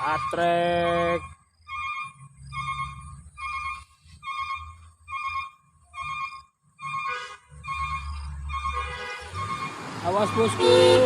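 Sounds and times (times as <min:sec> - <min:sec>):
truck engine rumble: 0:00.0 - 0:11.0
truck reverse warning beeps: 0:00.0 - 0:11.0.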